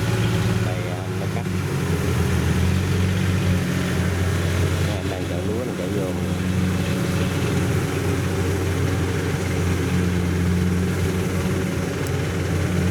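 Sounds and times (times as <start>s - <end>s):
engine running steadily: 0.0s - 12.9s.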